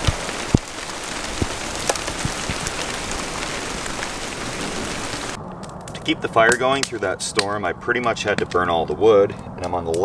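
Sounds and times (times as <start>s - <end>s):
steady rain falling: 0.0s - 8.1s.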